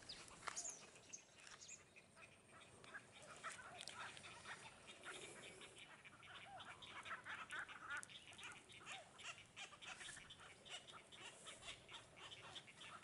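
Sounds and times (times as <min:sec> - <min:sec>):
many birds calling: 0:00.0 - 0:13.0.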